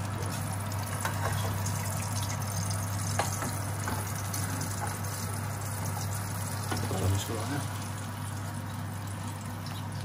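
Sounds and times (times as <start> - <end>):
cooking hiss on gas hob: 0.0 - 10.0.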